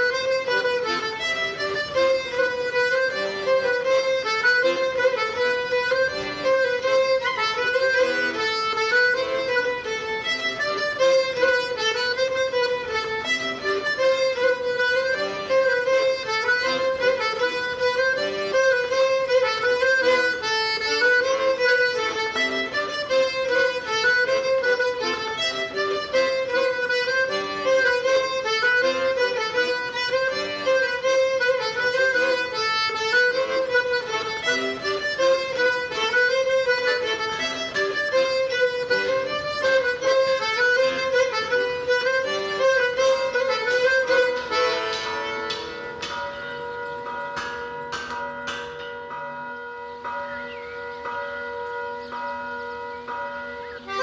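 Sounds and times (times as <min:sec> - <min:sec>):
fiddle playing dance tune: 0:00.0 - 0:48.6.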